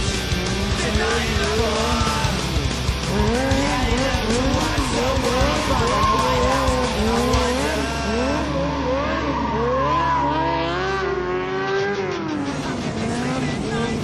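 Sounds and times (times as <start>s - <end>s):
motorcycle engine revving: 0.0s - 14.0s
tire squealing: 0.0s - 14.0s.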